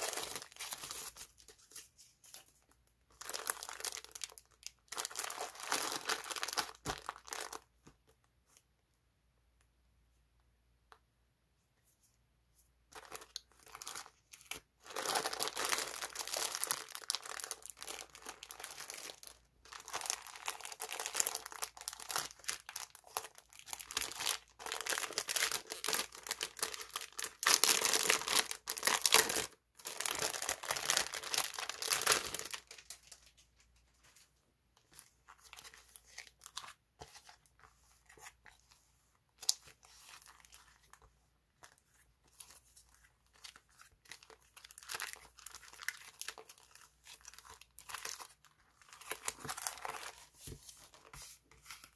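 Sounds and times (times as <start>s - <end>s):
cellophane crinkling: 0.0s - 7.7s, 12.9s - 38.7s, 39.3s - 51.9s.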